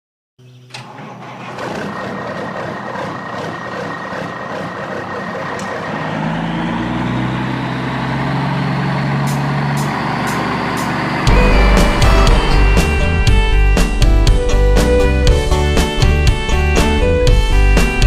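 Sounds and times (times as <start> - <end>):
truck engine running: 0.9 - 18.0.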